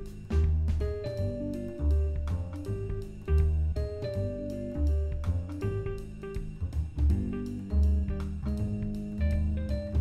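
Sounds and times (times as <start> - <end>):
bass notes: 0.0 - 10.0
jazzy instrumental music: 0.0 - 10.0.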